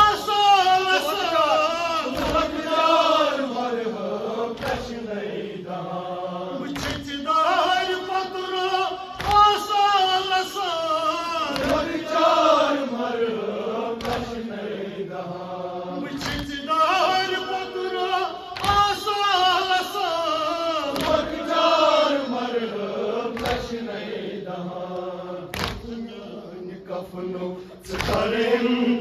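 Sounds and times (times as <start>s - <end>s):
man chanting into microphone: 0.0s - 5.8s, 6.4s - 13.3s, 15.8s - 24.0s, 25.3s - 29.0s.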